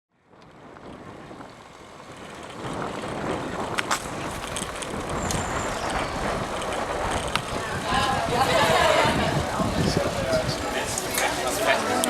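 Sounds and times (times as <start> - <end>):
wind on microphone: 0.2 - 11.6
bicycle rattling over cobblestones: 0.2 - 12.0.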